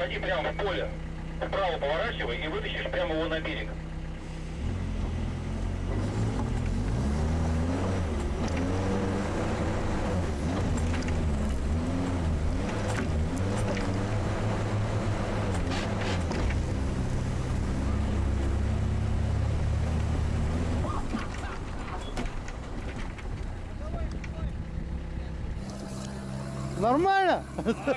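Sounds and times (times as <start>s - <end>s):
diesel engine running hard: 0.0s - 27.9s.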